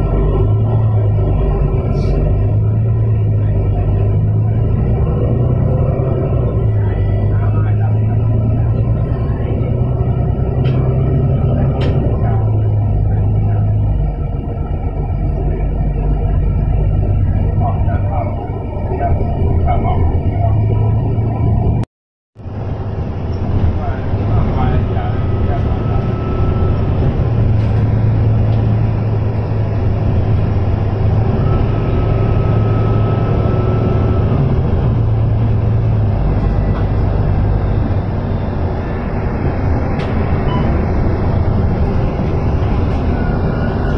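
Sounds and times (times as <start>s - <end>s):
bus diesel engine droning: 0.0s - 43.9s
road noise: 0.0s - 43.9s.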